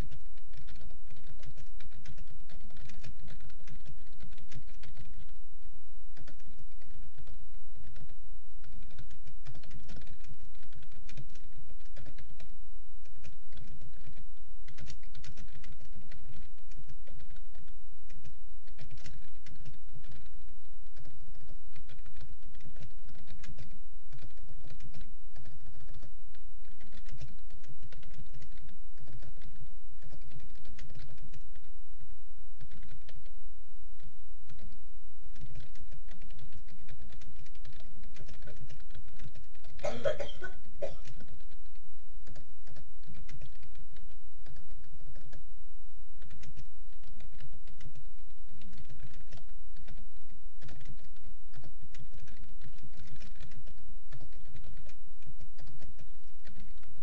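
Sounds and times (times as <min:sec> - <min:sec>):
keyboard typing clicks: 0:00.0 - 0:05.4, 0:06.2 - 0:32.0, 0:32.6 - 0:33.3, 0:34.0 - 0:45.4, 0:46.2 - 0:57.0
steady low hum: 0:00.0 - 0:57.0.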